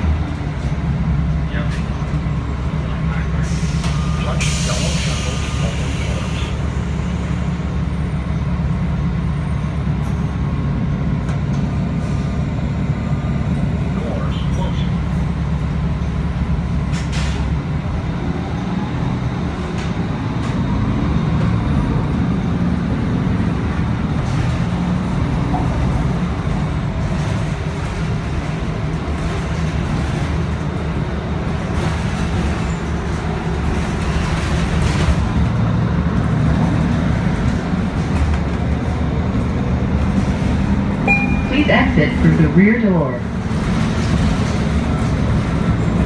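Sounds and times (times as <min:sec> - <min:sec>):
bus engine and road rumble: 0:00.0 - 0:46.0.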